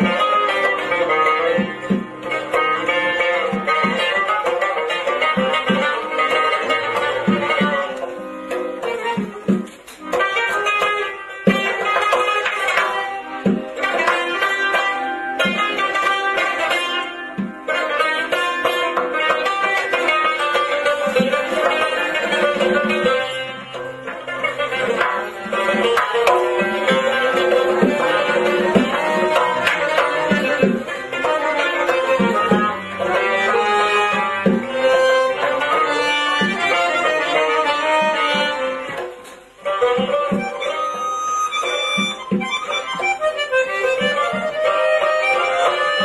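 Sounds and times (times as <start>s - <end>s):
frame drum beating: 0.0s - 41.0s
accordion: 0.0s - 46.0s
plucked lute melody: 0.0s - 46.0s.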